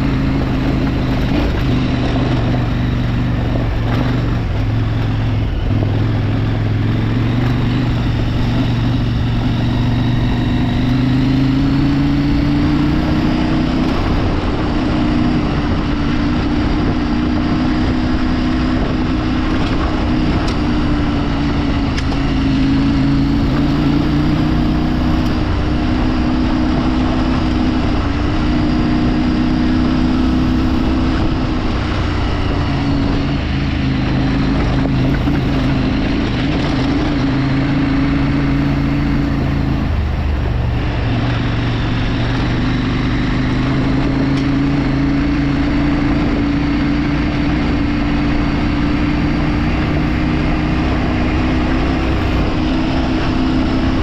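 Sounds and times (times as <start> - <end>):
motorcycle engine running: 0.0 - 54.0
steady rushing noise: 0.0 - 54.0.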